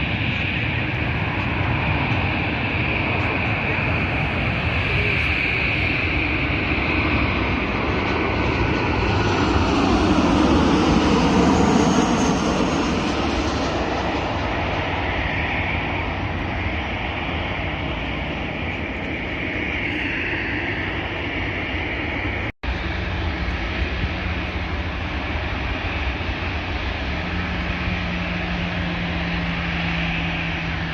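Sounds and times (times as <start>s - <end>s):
airliner engines roaring past: 0.0s - 30.9s
high engine whine: 0.0s - 30.9s.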